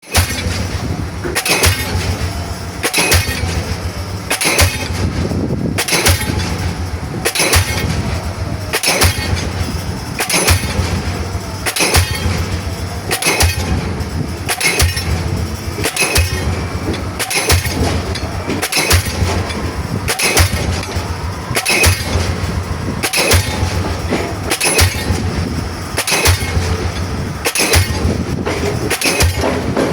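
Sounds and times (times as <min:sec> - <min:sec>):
pile hammer blows: 0:00.0 - 0:29.9.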